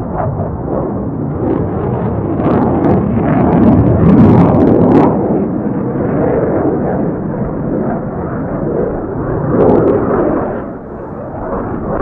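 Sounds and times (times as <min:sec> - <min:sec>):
jet flying past: 0:00.0 - 0:12.0.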